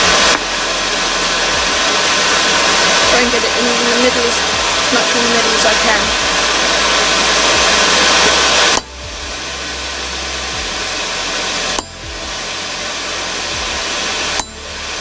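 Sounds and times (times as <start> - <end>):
forge air blower running: 0.0 - 15.0.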